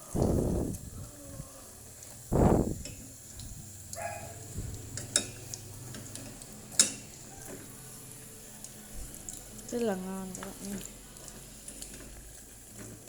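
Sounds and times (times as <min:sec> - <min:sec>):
shrimp sizzling in oil: 0:00.0 - 0:13.0.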